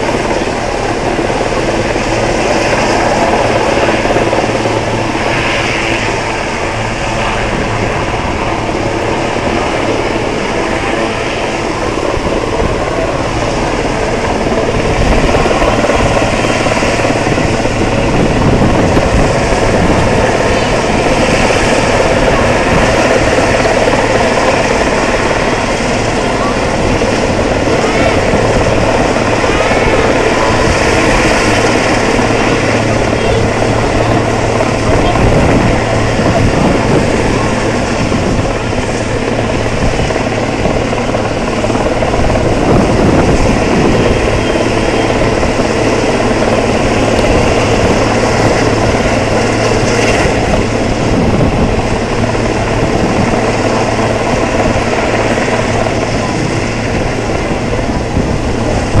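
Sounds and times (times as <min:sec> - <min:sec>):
helicopter flying: 0:00.0 - 0:59.0.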